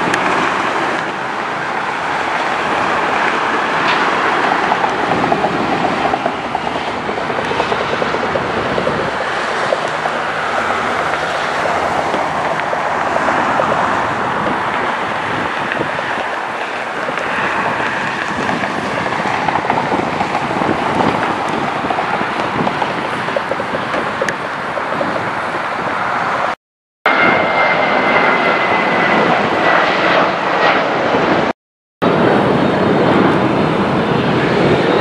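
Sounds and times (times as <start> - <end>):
high jet engine whine: 0.0 - 35.0
jet engine rushing: 0.0 - 35.0.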